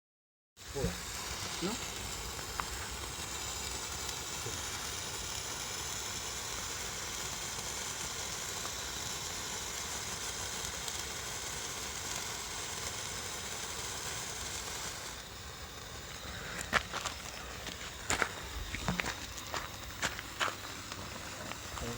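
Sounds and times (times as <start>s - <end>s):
hand-held firework hissing: 0.6s - 21.9s.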